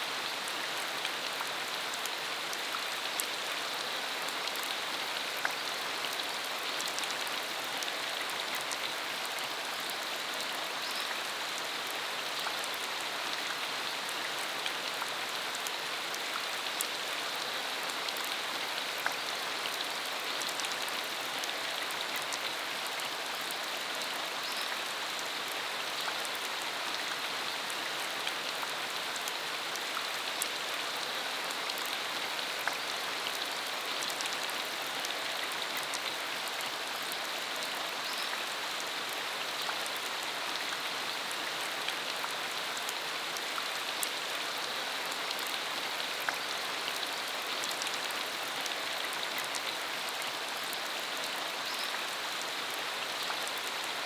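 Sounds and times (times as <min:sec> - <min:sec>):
rain on a dirt road: 0:00.0 - 0:54.0.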